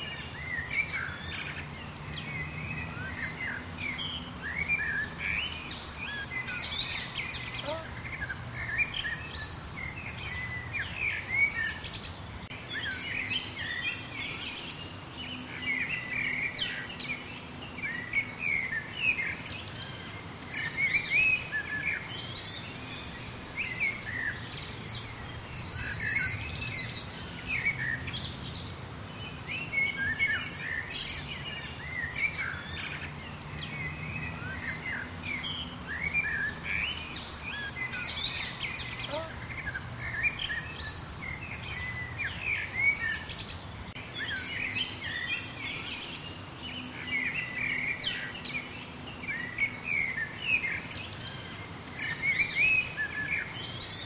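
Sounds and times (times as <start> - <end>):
songbirds chirping and whistling: 0.0 - 54.0.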